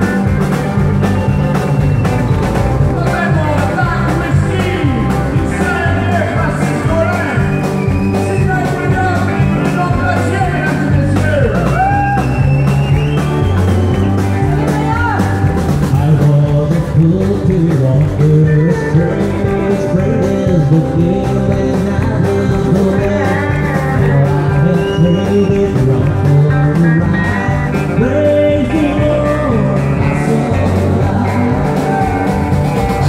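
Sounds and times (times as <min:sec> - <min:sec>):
country band playing: 0:00.0 - 0:33.0
sliding lead guitar notes: 0:00.0 - 0:33.0.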